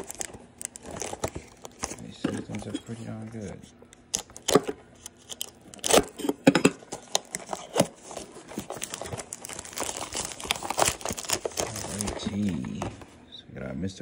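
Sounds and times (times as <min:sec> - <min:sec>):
plastic wrapper ripping and crinkling: 0:00.0 - 0:13.0.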